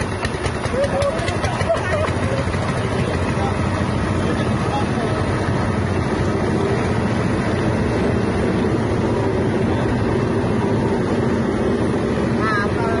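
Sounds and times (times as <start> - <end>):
small engine running machine: 0.0 - 13.0.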